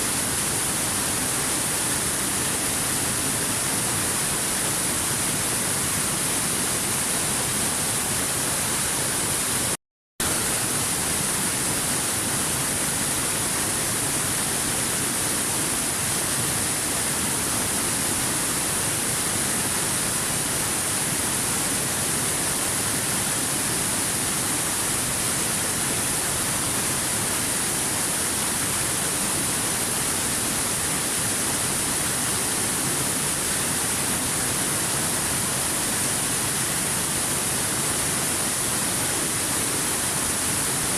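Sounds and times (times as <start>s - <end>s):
waterfall rushing hiss: 0.0s - 40.9s.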